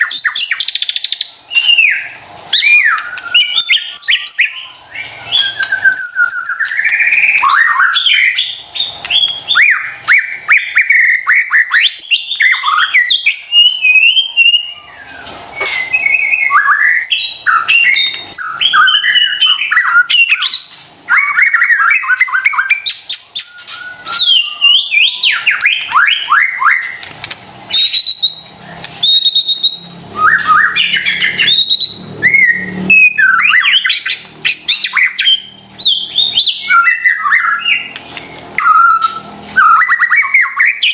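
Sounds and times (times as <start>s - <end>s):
bird singing whistled trills: 0.0s - 27.0s, 27.7s - 38.0s, 38.6s - 40.9s.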